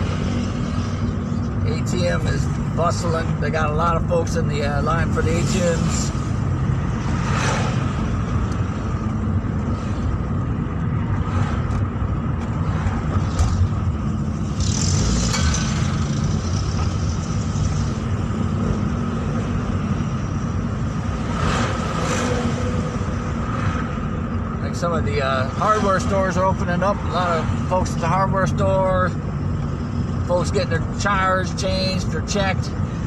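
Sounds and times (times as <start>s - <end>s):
car engine and road noise: 0.0s - 33.0s
passing vehicles: 0.0s - 33.0s.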